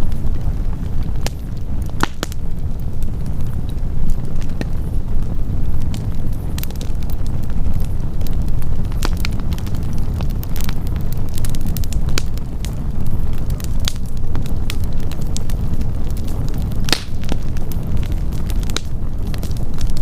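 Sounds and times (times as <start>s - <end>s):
campfire crackling and popping: 0.0s - 20.0s
fire low rumble: 0.0s - 20.0s.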